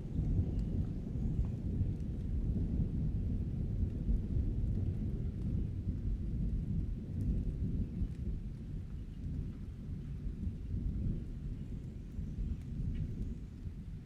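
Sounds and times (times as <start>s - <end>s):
light rain pattering: 0.0s - 14.0s
thunder rumbling: 0.0s - 14.0s.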